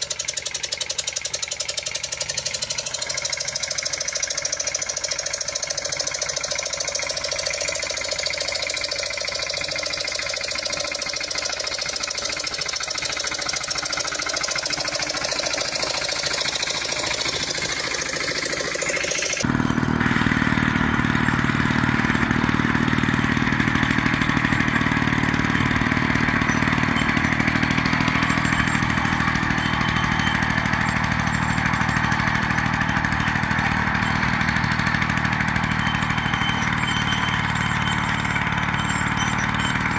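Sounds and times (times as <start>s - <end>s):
deep heavy engine: 0.0s - 39.9s
small tractor engines running: 0.0s - 39.9s.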